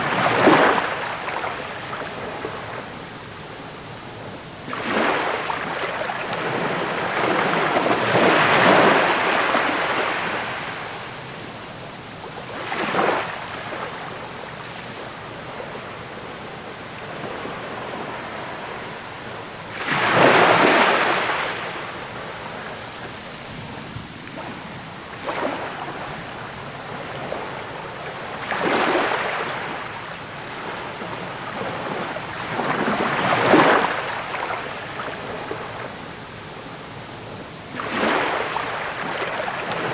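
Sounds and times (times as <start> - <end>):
ocean waves breaking: 0.0 - 3.9, 4.6 - 39.9.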